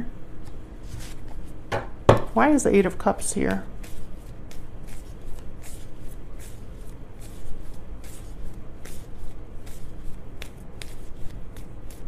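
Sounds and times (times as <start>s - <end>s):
cards shuffling: 0.4s - 1.6s, 3.4s - 12.0s.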